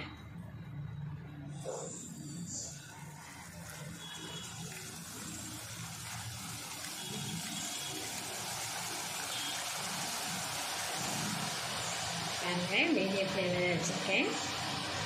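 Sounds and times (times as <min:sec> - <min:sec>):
batter sizzling in hot oil: 0:01.5 - 0:15.0.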